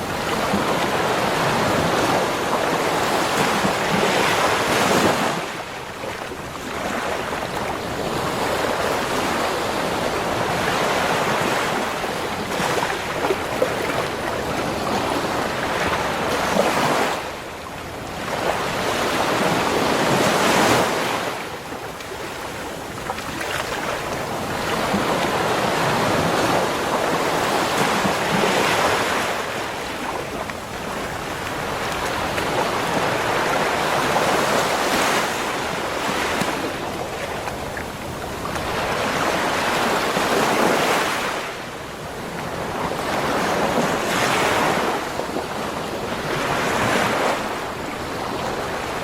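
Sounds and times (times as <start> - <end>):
waves breaking on a beach: 0.0 - 49.0.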